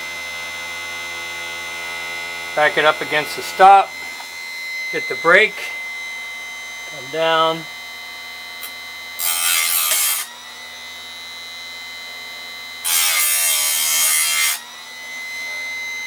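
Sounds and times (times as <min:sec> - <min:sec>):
sharpener motor whining: 0:00.0 - 0:16.0.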